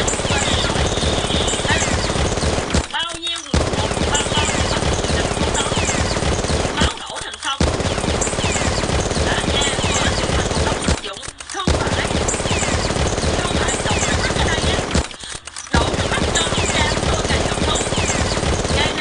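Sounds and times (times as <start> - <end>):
automatic gunfire: 0.0 - 19.0.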